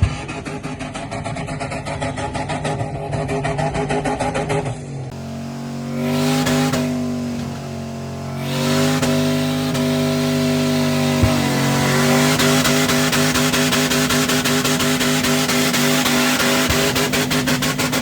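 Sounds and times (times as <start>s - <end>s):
tires squealing: 0.0s - 4.8s, 5.5s - 18.0s
engine at high revs: 0.0s - 18.0s
pulsing engine: 0.0s - 18.0s.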